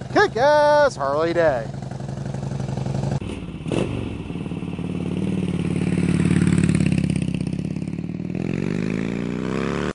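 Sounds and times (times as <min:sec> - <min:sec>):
motorcycle engine revving: 0:01.3 - 0:09.9.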